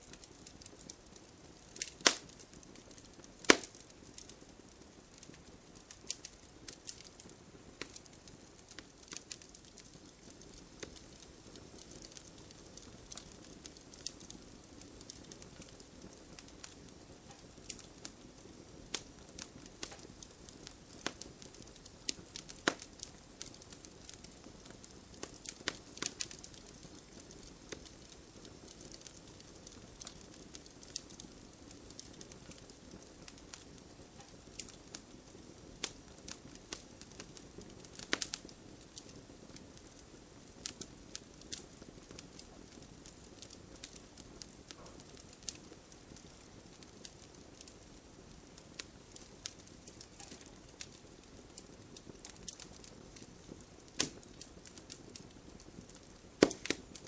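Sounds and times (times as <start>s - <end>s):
bonfire crackling and popping: 0.0s - 57.0s
soft rain patter: 0.0s - 57.0s.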